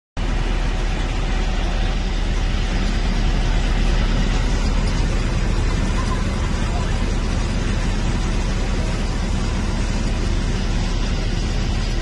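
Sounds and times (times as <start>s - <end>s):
truck engine idling: 0.2s - 12.0s.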